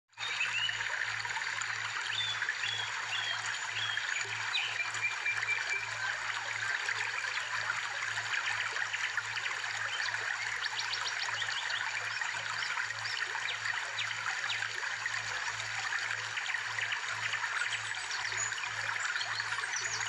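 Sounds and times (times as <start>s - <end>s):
water trickling: 0.1s - 20.0s.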